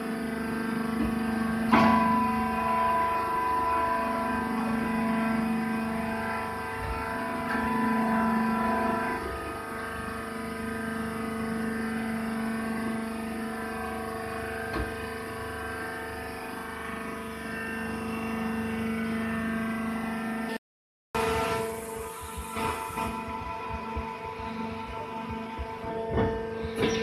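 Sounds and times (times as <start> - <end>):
hydraulic power unit humming: 0.0 - 20.6, 21.2 - 27.0.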